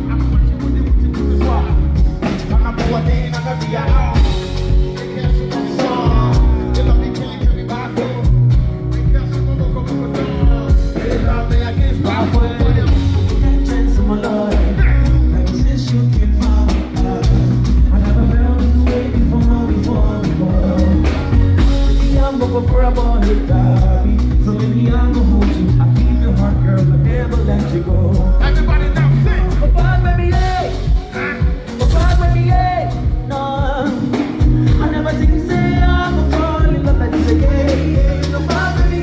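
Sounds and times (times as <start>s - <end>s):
drums: 0.0s - 39.0s
heavy bass line: 0.0s - 39.0s
live band playing: 0.0s - 39.0s
vocals: 0.0s - 39.0s.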